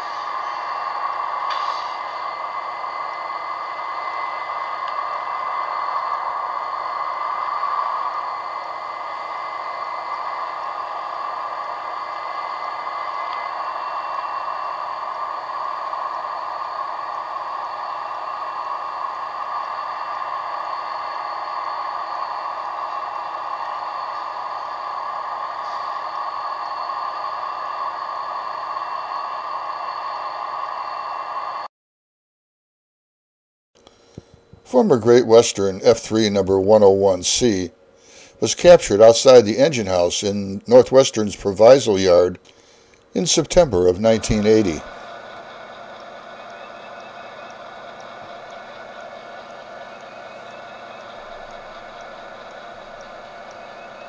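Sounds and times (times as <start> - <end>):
faint steady tones: 0.0 - 31.7, 33.8 - 54.0
steady mechanical running noise: 0.0 - 31.7, 33.8 - 54.0.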